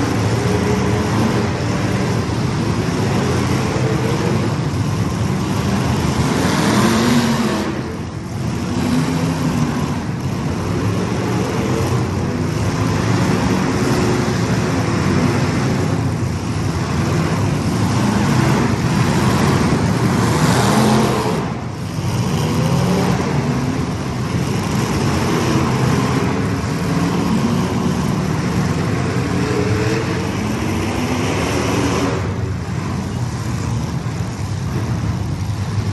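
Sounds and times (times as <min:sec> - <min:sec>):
racing engines revving: 0:00.0 - 0:35.9.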